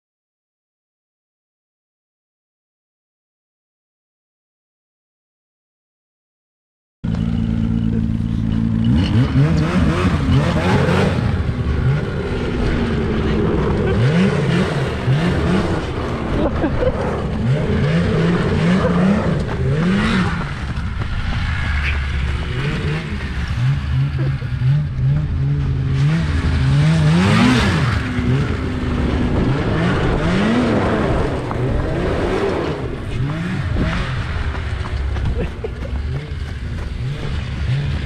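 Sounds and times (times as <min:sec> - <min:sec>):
vehicle engine revving: 0:07.0 - 0:38.0.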